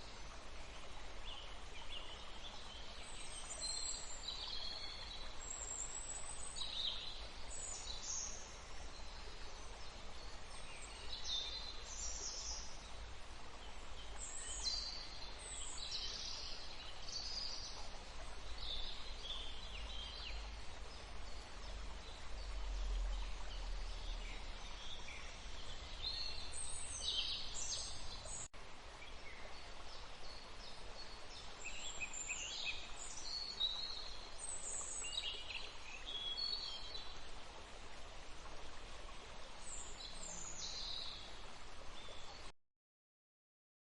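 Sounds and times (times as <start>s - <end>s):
running water hiss: 0.0s - 42.5s.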